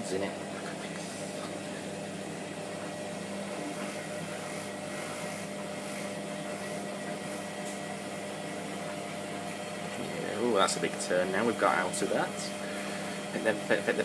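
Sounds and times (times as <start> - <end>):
washing machine motor humming: 0.0 - 14.0.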